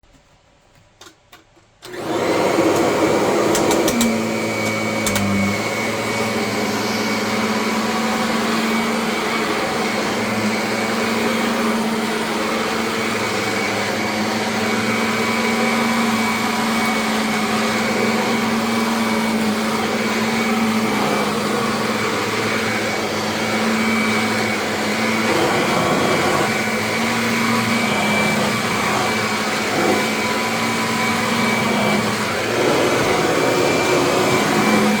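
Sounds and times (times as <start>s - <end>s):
vacuum cleaner running: 1.8s - 35.0s.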